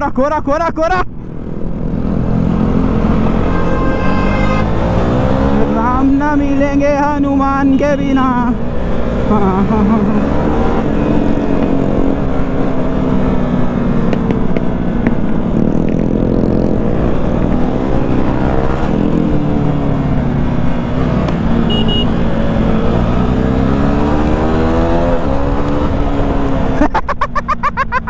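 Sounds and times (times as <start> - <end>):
motorcycle engine revving: 1.5 - 6.3, 8.0 - 26.8.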